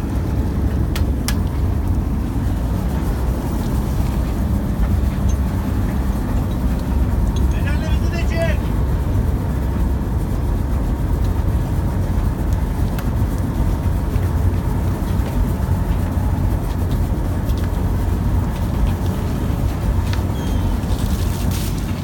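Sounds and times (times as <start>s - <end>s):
boat engine low drone: 0.0s - 22.0s.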